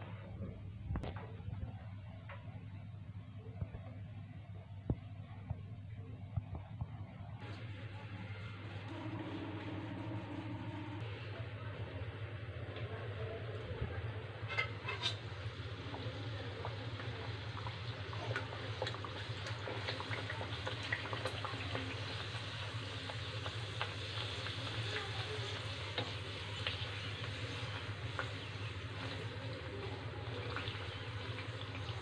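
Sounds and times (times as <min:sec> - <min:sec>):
dough deep-frying in oil: 0:00.0 - 0:32.0.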